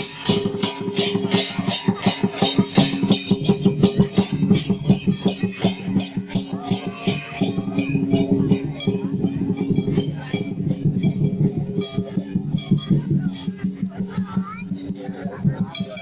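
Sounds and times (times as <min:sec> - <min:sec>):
music with fast beat: 0:00.0 - 0:16.0.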